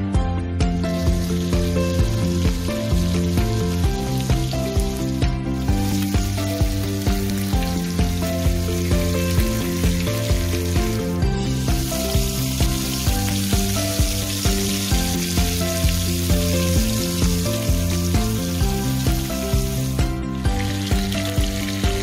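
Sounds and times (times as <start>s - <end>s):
background music with steady beat: 0.0s - 22.0s
meat sizzling in hot oil: 0.8s - 22.0s.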